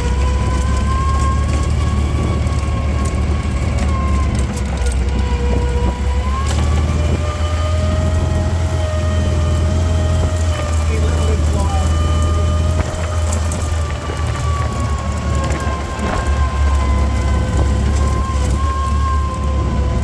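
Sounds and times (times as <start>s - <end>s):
car engine droning: 0.0s - 20.0s
whining tone: 0.0s - 20.0s.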